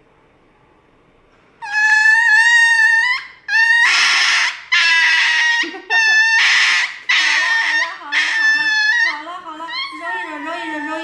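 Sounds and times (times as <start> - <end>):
dog screaming: 1.6 - 11.0.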